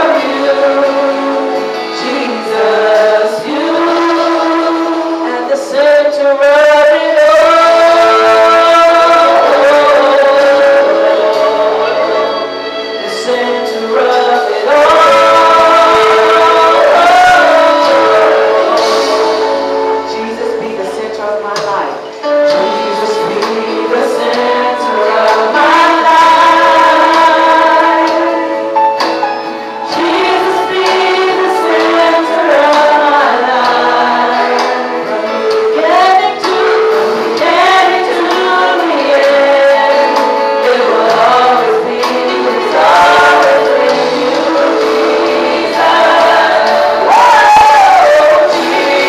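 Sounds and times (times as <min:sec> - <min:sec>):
women singing gospel song: 0:00.0 - 0:29.1, 0:29.8 - 0:49.0
backing music: 0:00.0 - 0:49.0.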